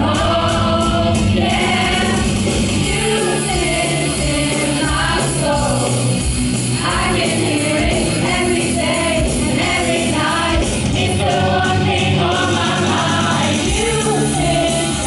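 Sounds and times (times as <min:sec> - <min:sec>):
choir singing with instruments: 0:00.0 - 0:15.0.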